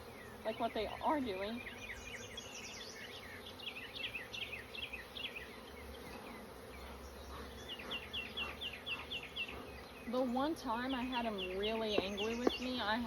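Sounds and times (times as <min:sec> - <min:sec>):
bird chirping: 0:00.0 - 0:13.0
honeybees buzzing: 0:00.0 - 0:13.0.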